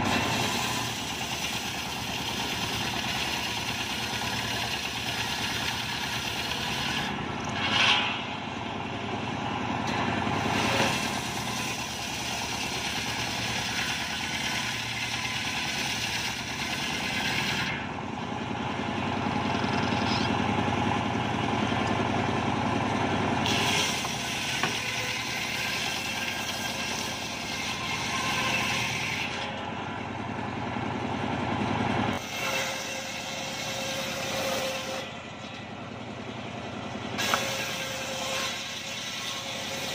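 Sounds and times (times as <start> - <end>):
saw blade cutting wood: 0.0 - 22.0, 22.9 - 30.0, 32.1 - 35.8, 37.1 - 39.9
sawmill engine running: 0.0 - 39.9.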